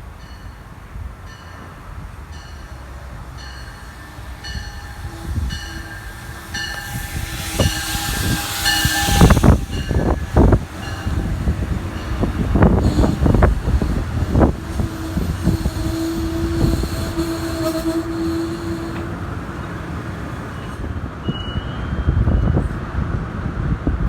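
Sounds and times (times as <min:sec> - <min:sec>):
train rumbling on rails: 0:00.0 - 0:24.0
wheels or brakes squealing: 0:03.4 - 0:22.8
wind gusts on microphone: 0:04.3 - 0:24.0.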